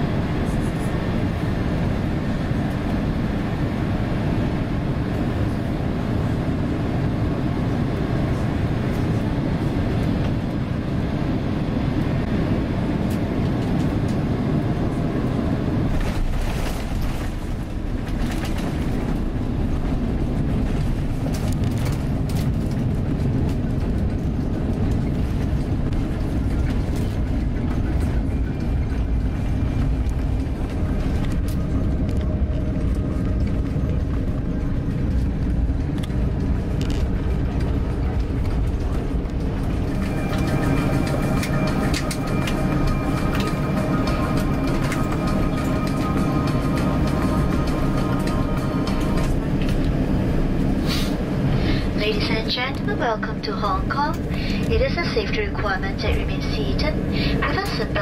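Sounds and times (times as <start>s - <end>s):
airplane cabin engine and airflow: 0.0s - 58.0s.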